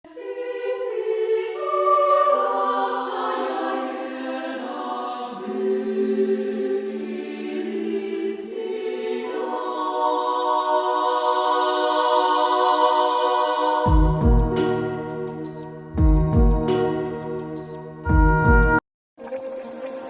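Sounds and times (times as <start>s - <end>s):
choir-like voices holding chords: 0.1s - 18.8s.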